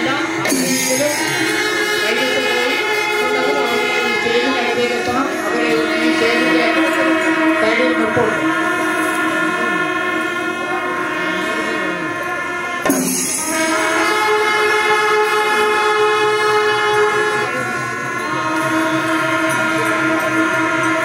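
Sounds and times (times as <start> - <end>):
brass horns blaring chords: 0.0 - 21.0.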